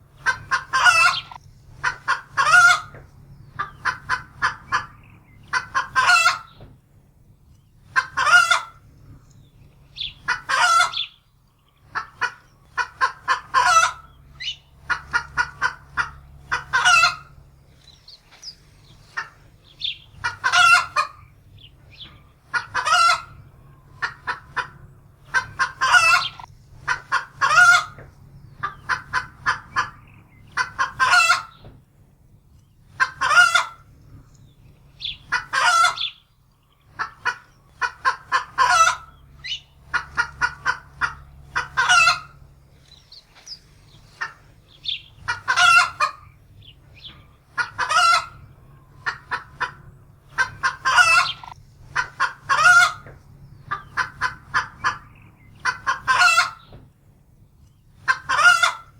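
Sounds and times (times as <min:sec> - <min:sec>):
hen cackling in alarm: 0:00.1 - 0:06.6, 0:07.9 - 0:08.8, 0:10.0 - 0:11.2, 0:11.8 - 0:17.5, 0:18.1 - 0:31.6, 0:32.9 - 0:33.9, 0:34.9 - 0:56.7, 0:58.0 - 0:58.9.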